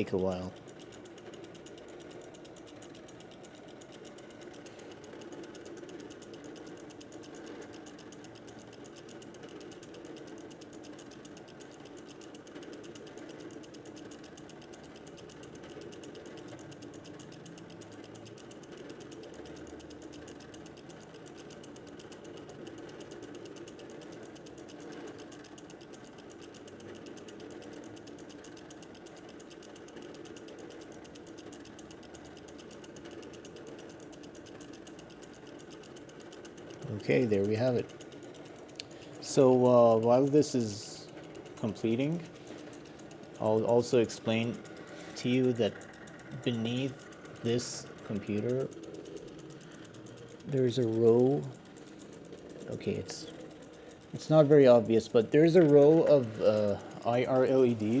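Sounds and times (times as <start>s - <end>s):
rapid mechanical clicking: 0.0s - 58.0s.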